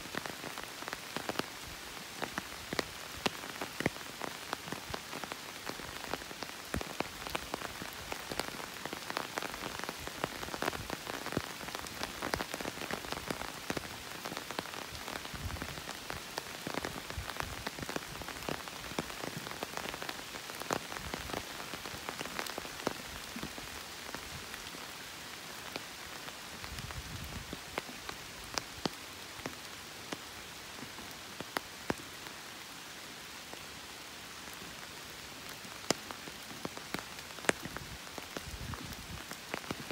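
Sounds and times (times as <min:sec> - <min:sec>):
steady rain: 0:00.0 - 0:39.9
raindrops ticking: 0:00.1 - 0:24.9, 0:25.5 - 0:32.0, 0:34.4 - 0:39.9.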